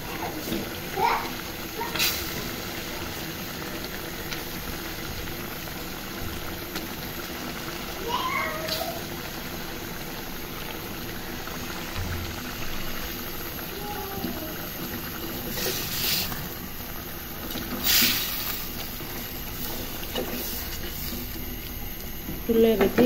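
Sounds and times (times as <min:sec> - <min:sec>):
curry simmering and bubbling: 0:00.0 - 0:22.9.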